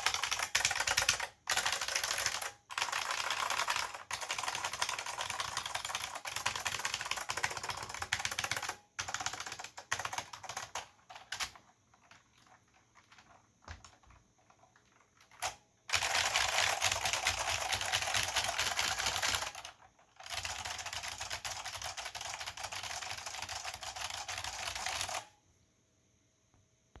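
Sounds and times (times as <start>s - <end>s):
keyboard typing clicks: 0.0s - 25.3s.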